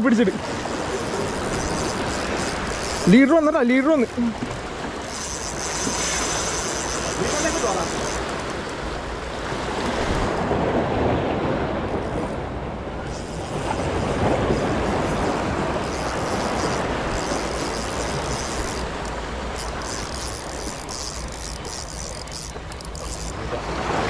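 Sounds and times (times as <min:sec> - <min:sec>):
sea surf breaking on beach: 0:00.0 - 0:24.0.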